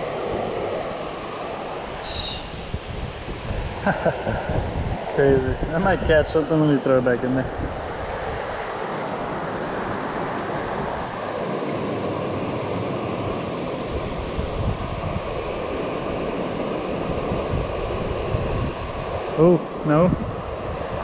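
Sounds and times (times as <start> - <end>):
creek water rushing: 0.0 - 21.0
wind buffeting microphone: 0.0 - 21.0.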